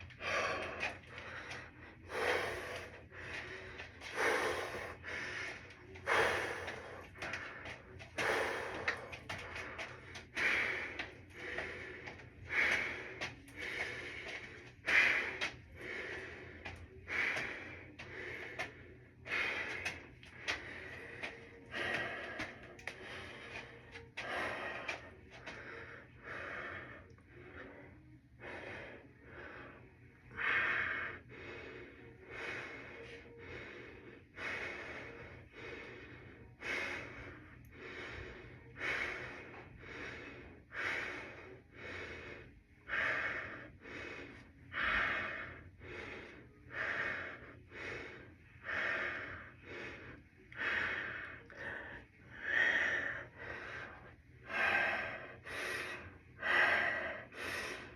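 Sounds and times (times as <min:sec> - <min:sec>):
person breathing hard: 0:00.0 - 0:57.9.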